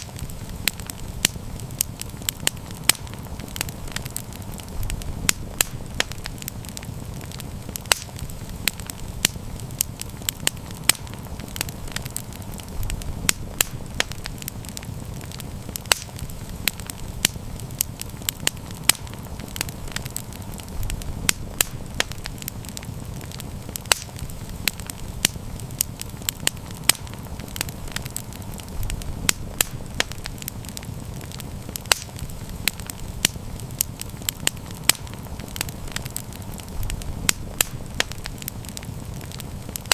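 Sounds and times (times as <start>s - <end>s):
campfire crackling and popping: 0.0s - 39.9s
flames rumbling: 0.0s - 39.9s.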